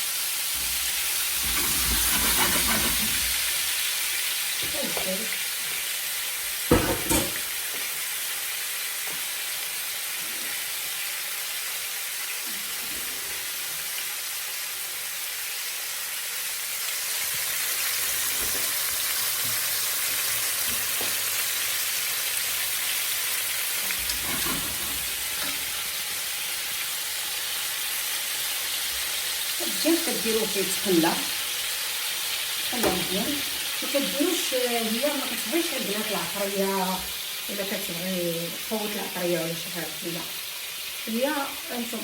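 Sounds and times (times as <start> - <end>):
chicken sizzling in hot oil: 0.0 - 42.0.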